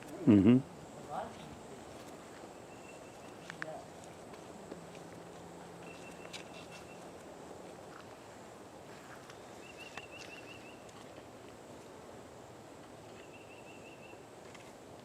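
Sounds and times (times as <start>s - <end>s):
faint woodland ambience: 0.0s - 15.0s.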